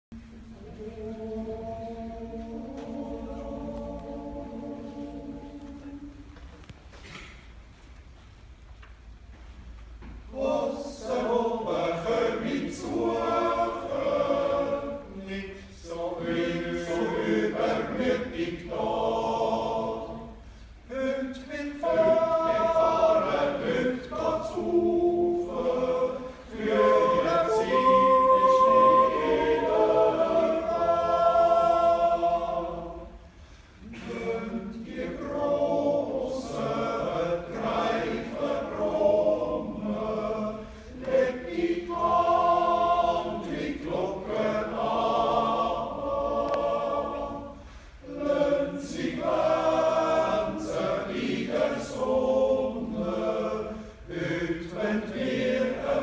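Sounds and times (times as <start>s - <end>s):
male choir yodeling a cappella: 0.5s - 6.1s, 10.3s - 33.2s, 33.8s - 56.0s.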